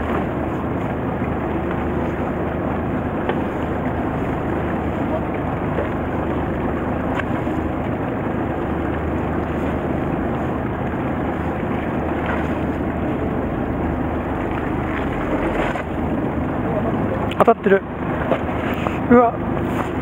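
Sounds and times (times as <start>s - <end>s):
boat engine humming: 0.0s - 20.0s
rush of wind and water: 0.0s - 20.0s.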